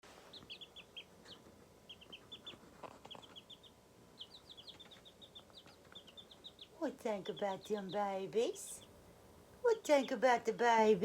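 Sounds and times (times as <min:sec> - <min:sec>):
chicks peeping softly: 0:00.1 - 0:11.0.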